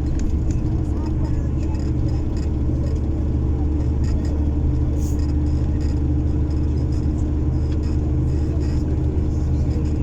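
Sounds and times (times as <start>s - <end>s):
bus engine and road drone: 0.0s - 10.0s.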